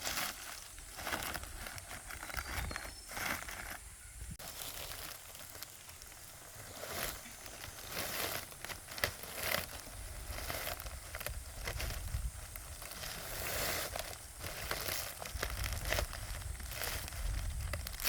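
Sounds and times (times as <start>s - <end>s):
dry palm leaves rustling: 0.0s - 18.0s.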